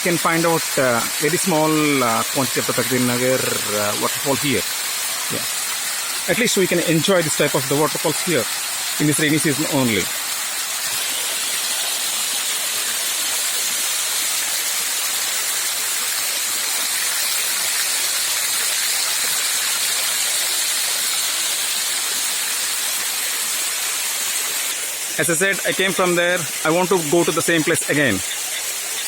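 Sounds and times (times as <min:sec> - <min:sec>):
rain falling: 0:00.0 - 0:29.0
waterfall rushing: 0:00.0 - 0:29.0.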